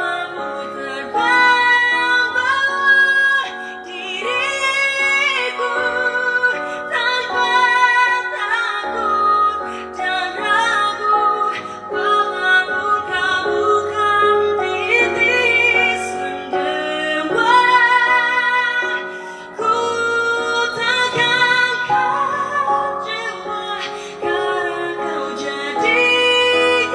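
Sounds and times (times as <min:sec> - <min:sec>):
instrumental accompaniment: 0:00.0 - 0:26.9
woman singing a ballad: 0:00.0 - 0:26.9.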